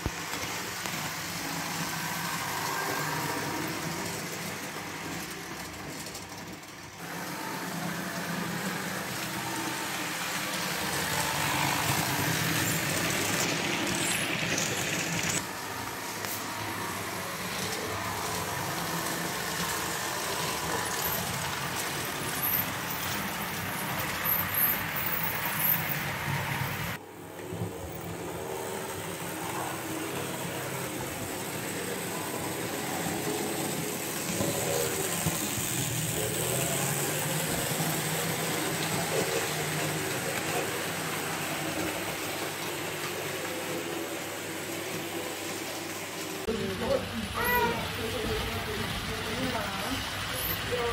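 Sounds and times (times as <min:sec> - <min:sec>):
model train wheels rumbling: 0:00.0 - 0:50.9.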